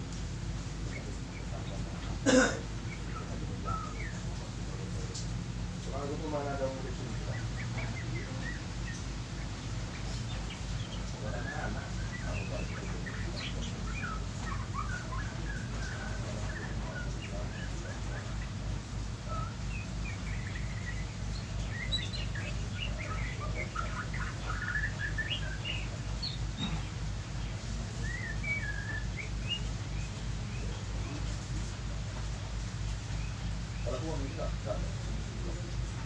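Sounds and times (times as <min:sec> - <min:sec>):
small birds chirping: 0:00.0 - 0:36.0
steady low hum: 0:00.0 - 0:36.0.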